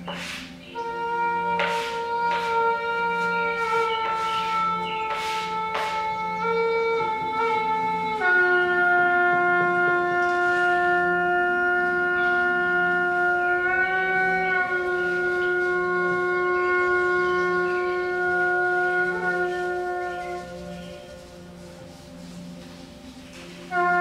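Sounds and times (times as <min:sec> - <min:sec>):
long sustained instrument note: 0:00.0 - 0:24.0
soft low pulsing drone: 0:00.0 - 0:24.0.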